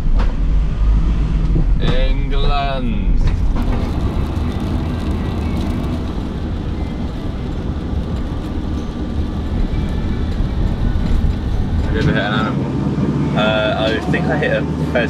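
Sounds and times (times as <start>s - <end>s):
van engine and tyres rumbling: 0.0s - 15.0s.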